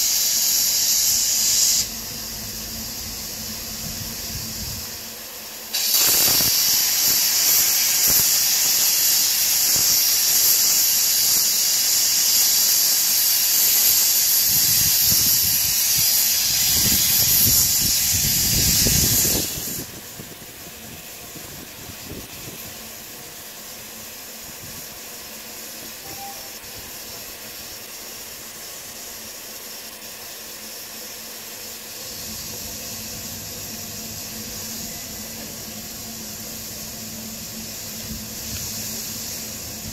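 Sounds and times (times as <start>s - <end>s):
steam locomotive hissing steam: 0.0s - 39.9s.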